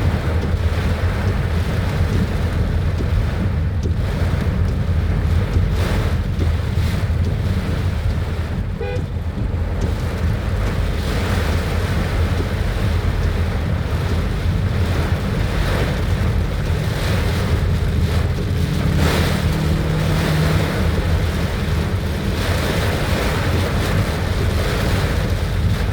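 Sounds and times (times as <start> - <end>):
road traffic: 0.0 - 25.9
wind rumbling on microphone: 0.0 - 25.9.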